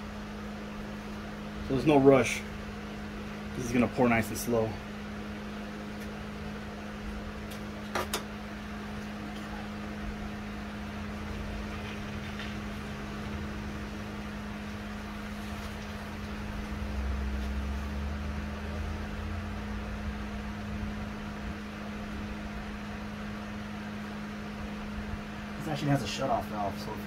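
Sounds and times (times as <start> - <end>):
fan motor humming: 0.0 - 27.0.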